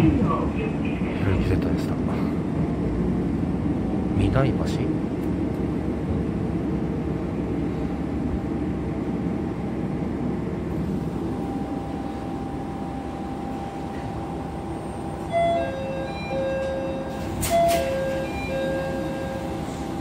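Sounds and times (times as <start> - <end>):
railcar rumble: 0.0 - 20.0.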